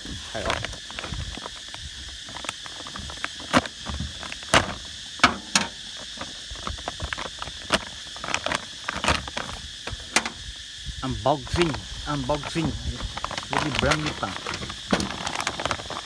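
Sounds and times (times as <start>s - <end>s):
packaging clicks and knocks: 0.0s - 10.4s, 11.6s - 16.0s
insect chirring: 0.0s - 16.0s.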